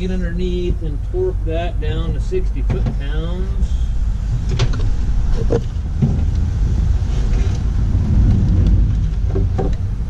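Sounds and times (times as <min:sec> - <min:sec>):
loud low mechanical rumble: 0:00.0 - 0:10.0.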